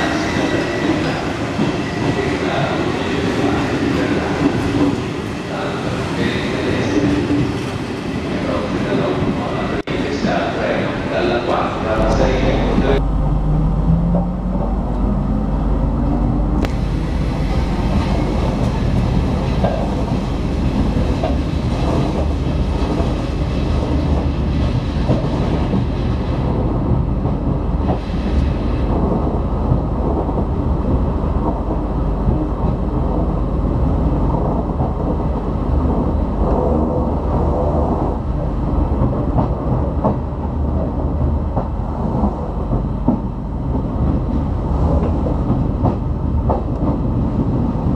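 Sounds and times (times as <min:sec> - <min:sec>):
rising train whine: 0:00.0 - 0:47.9
train rumbling along track: 0:00.0 - 0:47.9.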